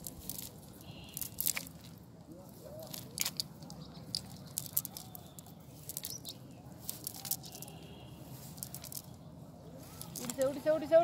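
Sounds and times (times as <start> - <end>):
net clicking on gravel: 0.0 - 10.7.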